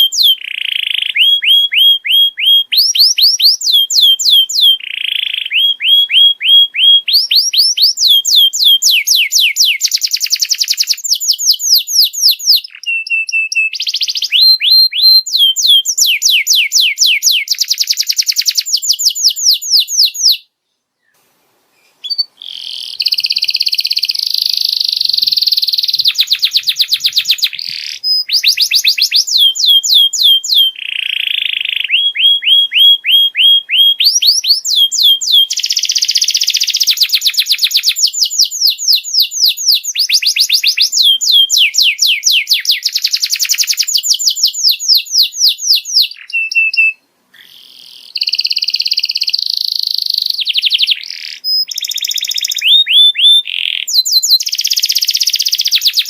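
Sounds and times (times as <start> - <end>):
canary singing fast trills: 0.0 - 21.2, 21.8 - 56.0.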